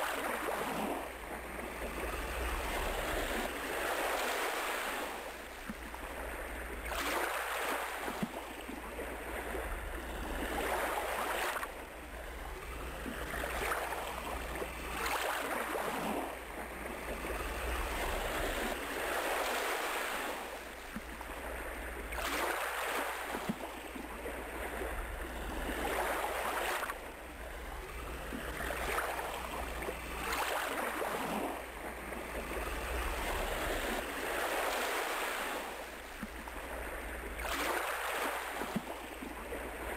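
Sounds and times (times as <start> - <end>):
waves washing in and breaking: 0.0 - 39.9.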